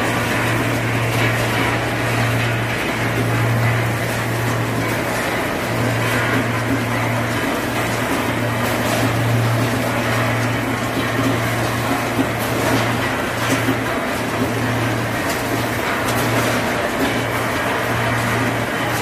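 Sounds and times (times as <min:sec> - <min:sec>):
low machinery hum: 0:00.0 - 0:19.0
mechanical noise of conveyor belts: 0:00.0 - 0:19.0.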